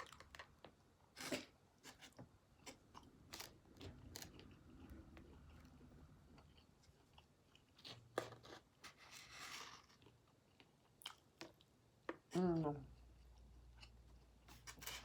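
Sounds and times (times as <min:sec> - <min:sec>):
person chewing food: 0:00.0 - 0:14.8.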